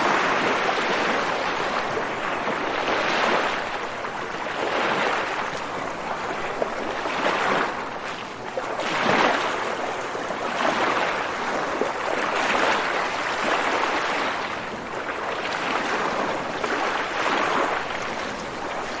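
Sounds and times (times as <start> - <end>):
waves washing in: 0.0 - 19.0.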